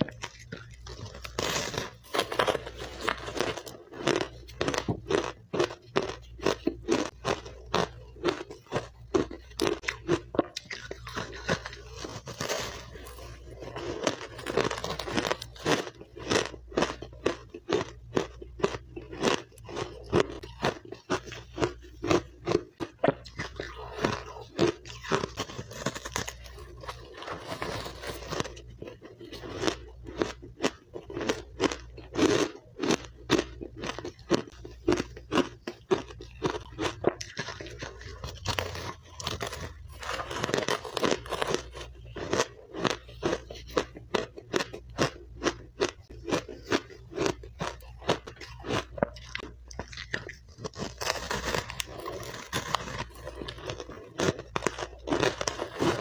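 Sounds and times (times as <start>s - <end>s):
ice being chewed and crunched: 0.0s - 56.0s.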